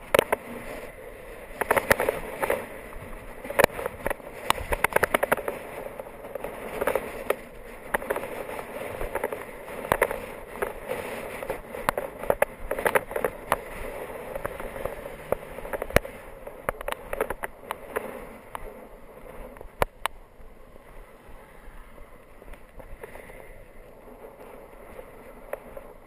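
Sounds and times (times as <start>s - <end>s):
rattles from road vibration: 0.0s - 26.0s
wind and road noise: 0.0s - 26.0s.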